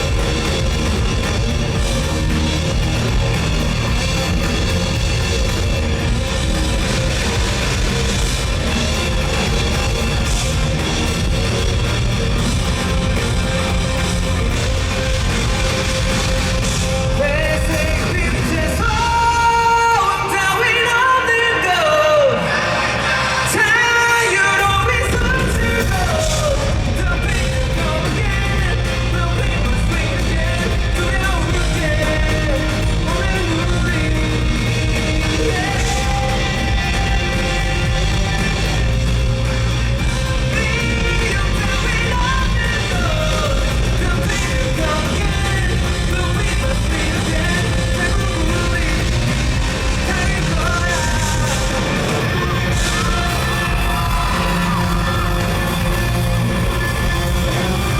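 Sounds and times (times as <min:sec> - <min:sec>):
drum kit: 0:00.0 - 0:20.9, 0:24.4 - 0:57.9
distorted electric guitar: 0:00.0 - 0:57.9
live rock band playing: 0:00.0 - 0:57.9
man singing: 0:00.0 - 0:57.9.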